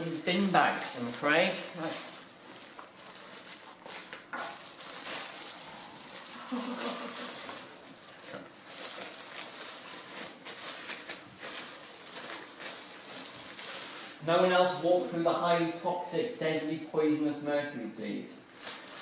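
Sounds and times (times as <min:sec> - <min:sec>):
plastic bag crinkling: 0:00.0 - 0:16.8, 0:18.4 - 0:19.0.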